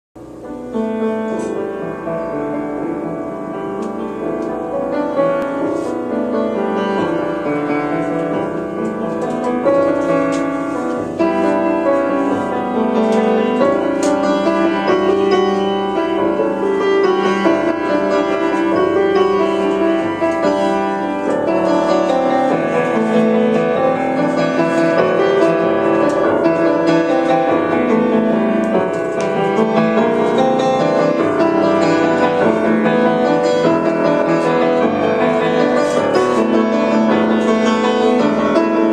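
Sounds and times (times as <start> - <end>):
grand piano: 0.2 - 38.9.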